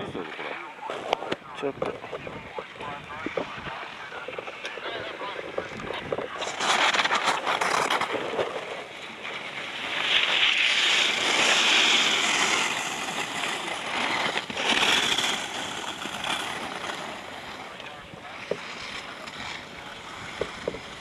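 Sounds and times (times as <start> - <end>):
skis carving on snow: 0.0 - 21.0.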